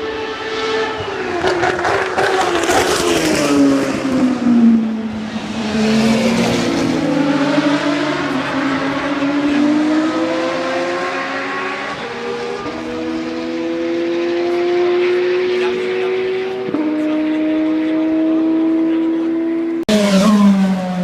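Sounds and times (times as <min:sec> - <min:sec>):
racing car engine accelerating: 0:00.0 - 0:21.0.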